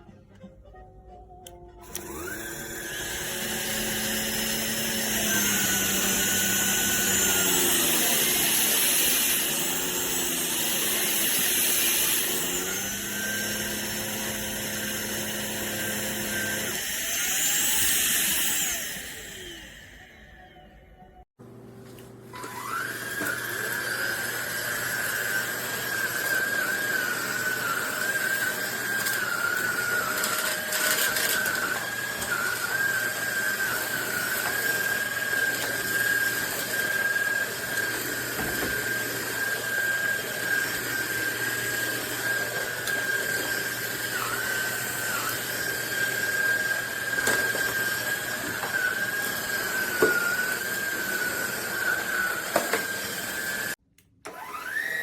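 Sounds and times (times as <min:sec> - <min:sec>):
stick vacuum motor whine: 0:01.4 - 0:55.0.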